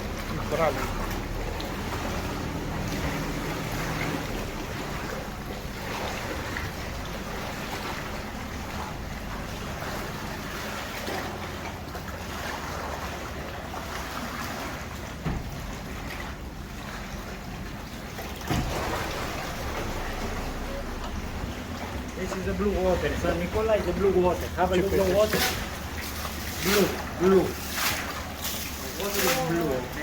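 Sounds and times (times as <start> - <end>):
boat engine running: 0.0 - 30.0
water washing along hull: 0.0 - 30.0.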